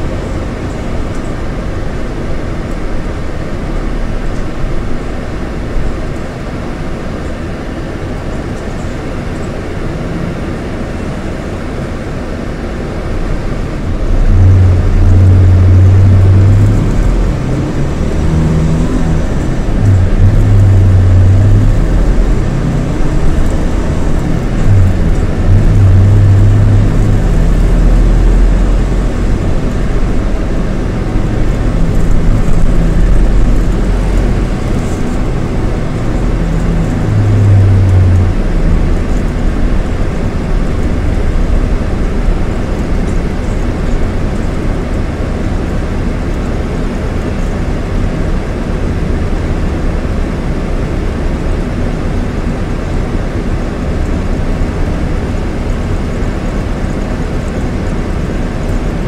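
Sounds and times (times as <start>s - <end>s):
coach diesel engine rumbling: 0.0s - 59.0s.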